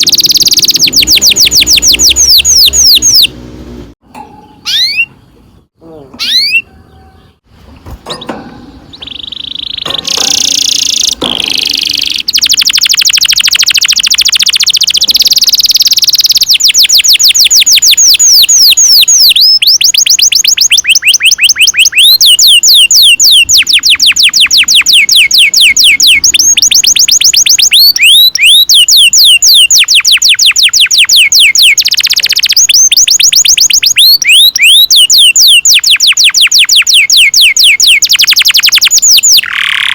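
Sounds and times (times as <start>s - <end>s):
canary singing trills: 0.0s - 3.5s, 4.1s - 39.9s.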